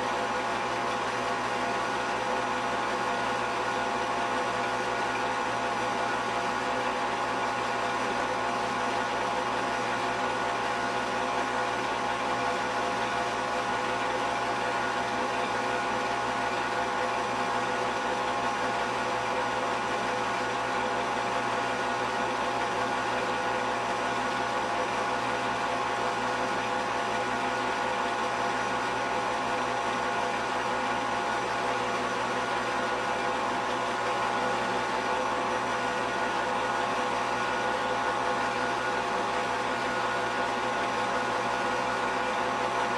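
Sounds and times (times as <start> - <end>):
mechanical whir with hum: 0.0 - 42.9.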